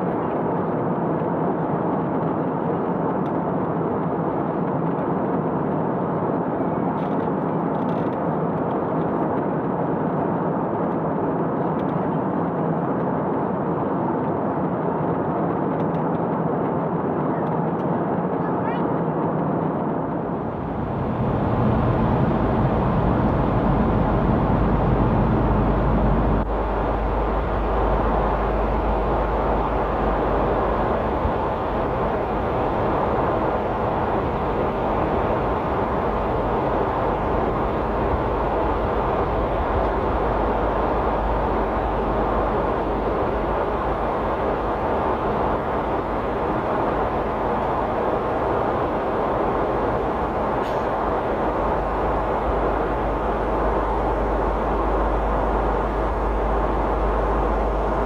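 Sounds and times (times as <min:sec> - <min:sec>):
airplane rushing and rumbling: 0:00.0 - 0:58.0.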